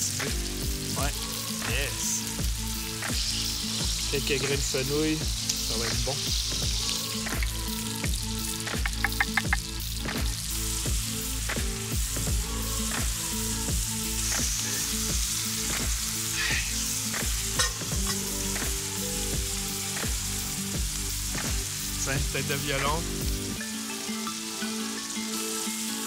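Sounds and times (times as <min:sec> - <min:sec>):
background music with beat: 0:00.0 - 0:26.0
food sizzling on griddle: 0:00.0 - 0:26.0.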